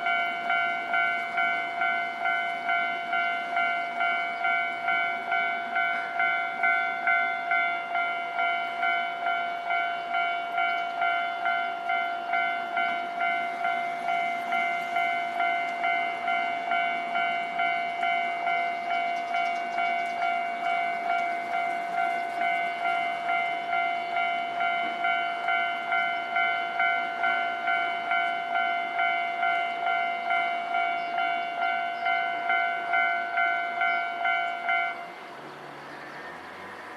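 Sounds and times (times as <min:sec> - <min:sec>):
level crossing alarm ringing: 0:00.0 - 0:35.2.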